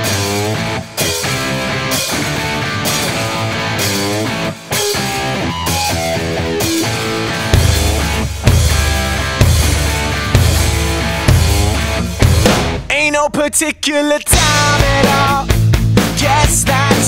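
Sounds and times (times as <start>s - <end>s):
rock music with guitar and drums: 0.0s - 13.6s, 14.3s - 17.0s.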